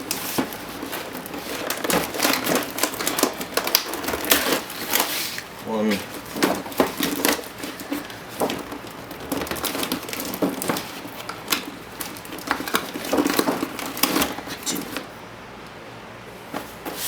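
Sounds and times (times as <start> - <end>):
packaging clicking and crinkling: 0.0 - 15.2.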